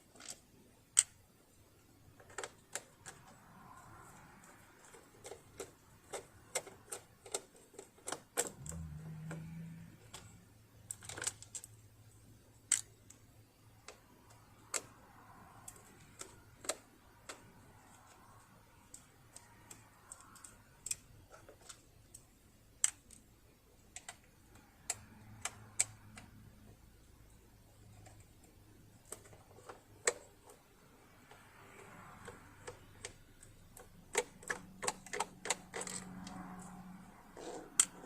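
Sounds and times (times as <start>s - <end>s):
tools clicking and tapping: 2.1s - 38.0s.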